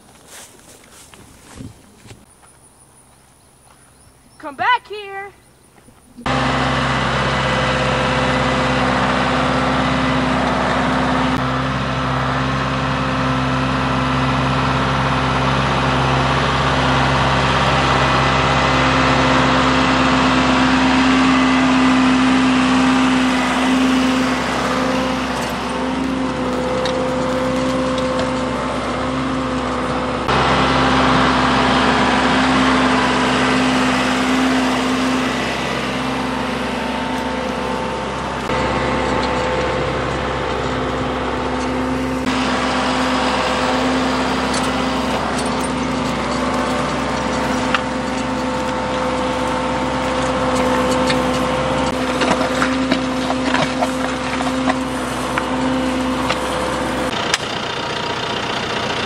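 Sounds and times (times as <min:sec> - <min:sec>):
tractor diesel engine under load: 0:00.0 - 0:59.0
clods cracking off plow: 0:05.8 - 0:59.0.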